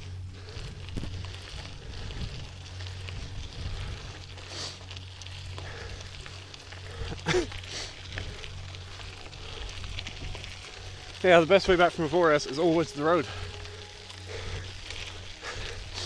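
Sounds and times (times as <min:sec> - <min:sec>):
bike tyres crunching on dirt: 0:00.0 - 0:16.0
low rumble of wind: 0:00.0 - 0:16.0.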